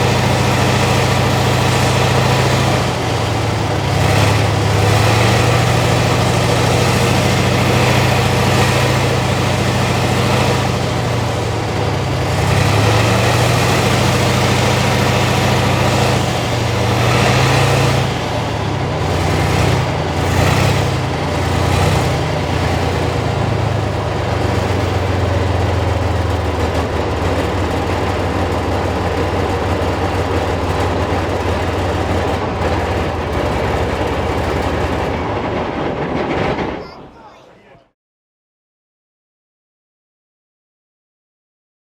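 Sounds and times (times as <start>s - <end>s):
diesel tank engine idling and revving: 0.0s - 35.4s.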